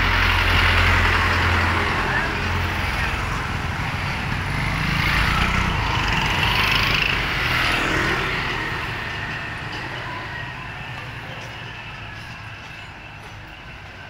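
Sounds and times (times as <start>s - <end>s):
vehicle engine passing: 0.0s - 12.3s.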